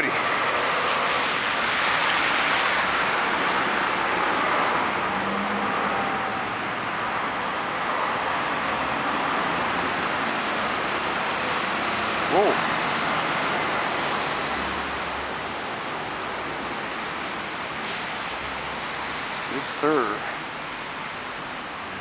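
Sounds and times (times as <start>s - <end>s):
traffic passing: 0.0s - 22.0s.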